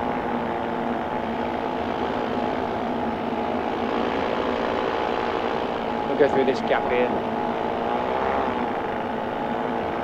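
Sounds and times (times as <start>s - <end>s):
paramotor engine and propeller: 0.0s - 10.0s.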